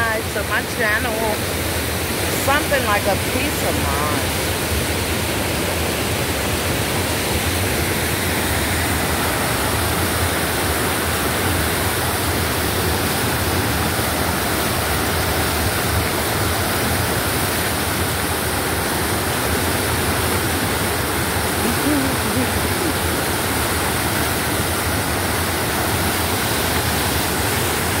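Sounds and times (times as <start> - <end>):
water rushing over boulders: 0.0 - 28.0.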